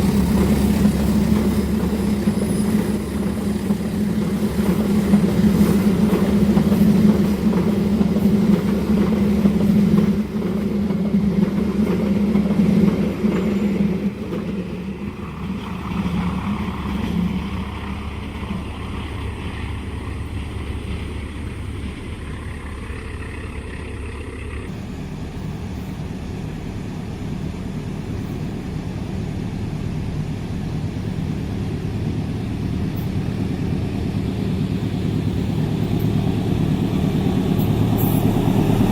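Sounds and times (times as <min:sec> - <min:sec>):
rumble of train running by: 0:00.0 - 0:38.9
train engine hum: 0:00.0 - 0:38.9.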